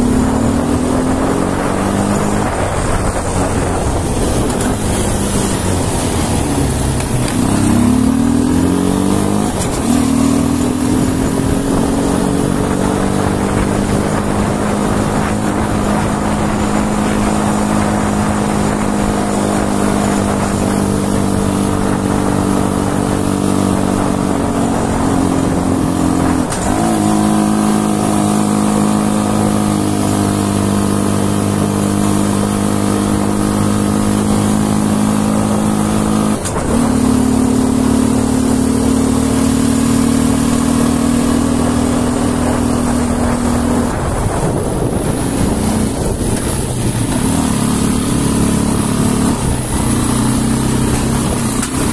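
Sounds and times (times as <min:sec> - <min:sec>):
quad bike engine running hard: 0:00.0 - 0:51.9.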